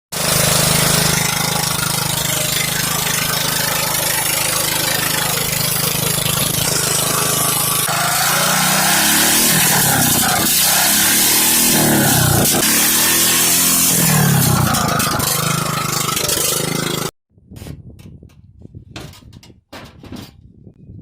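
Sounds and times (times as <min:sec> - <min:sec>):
lawn mower engine revving: 0:00.1 - 0:17.1.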